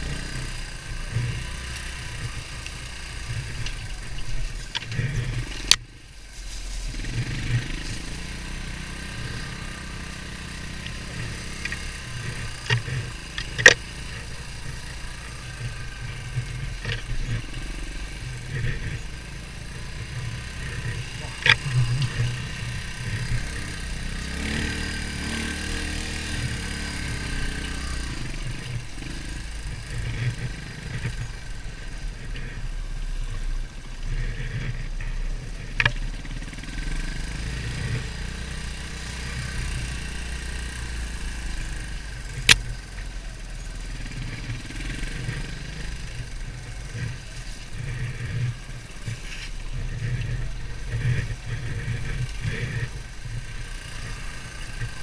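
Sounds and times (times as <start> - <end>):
dirt bike engine revving: 6.8 - 32.8, 34.2 - 55.0.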